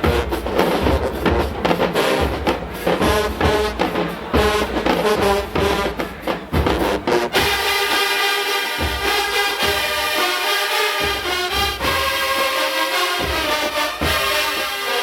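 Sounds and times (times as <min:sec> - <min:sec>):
bass drums and drumline: 0:00.0 - 0:15.0
marching band playing: 0:00.0 - 0:15.0
trombones and trumpets: 0:00.0 - 0:15.0.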